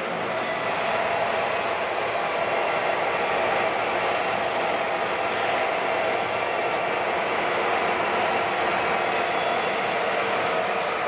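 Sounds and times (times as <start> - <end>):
model train wheels rumbling on rails: 0.0 - 11.0.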